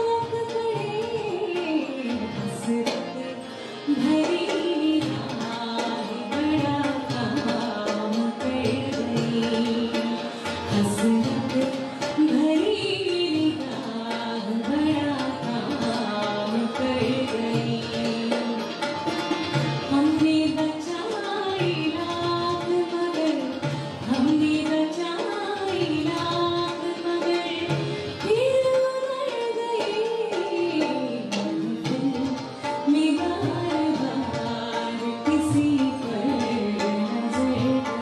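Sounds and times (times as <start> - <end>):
tabla strokes: 0.0 - 38.0
woman singing: 0.0 - 38.0.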